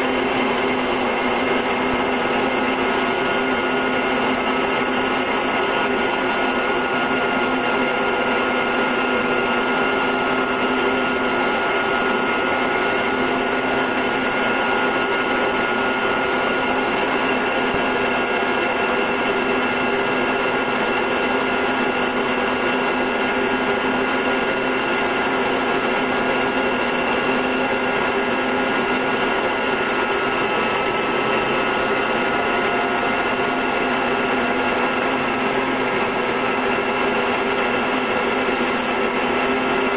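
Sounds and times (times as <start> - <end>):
turboprop engine droning: 0.0 - 39.9.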